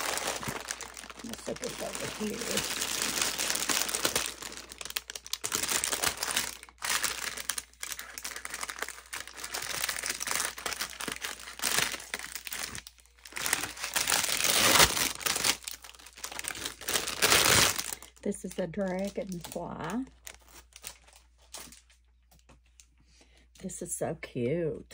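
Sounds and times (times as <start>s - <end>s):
plastic bag crinkling: 0.0s - 22.1s.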